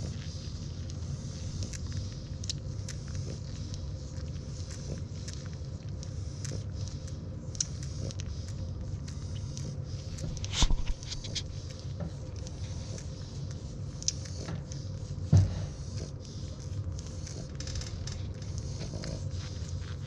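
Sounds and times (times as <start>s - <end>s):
puppies suckling: 0.0s - 20.0s.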